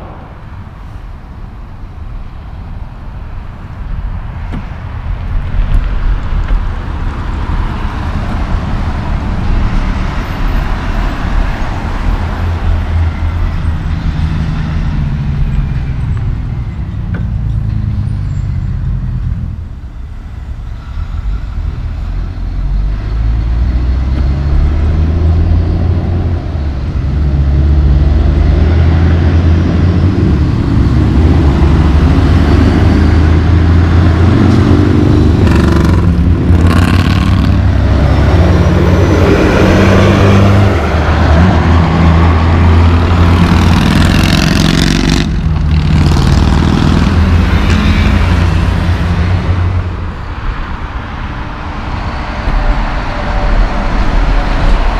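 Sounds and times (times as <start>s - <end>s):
cars passing: 0.0s - 54.9s
semi trucks running past: 0.0s - 54.9s
truck engine approaching: 0.0s - 54.9s.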